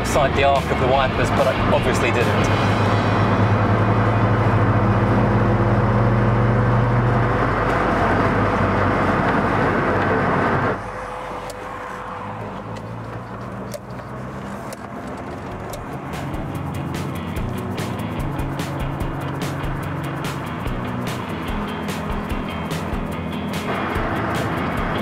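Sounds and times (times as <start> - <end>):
car engine hum: 0.0 - 25.0
tyre and road noise: 0.0 - 25.0.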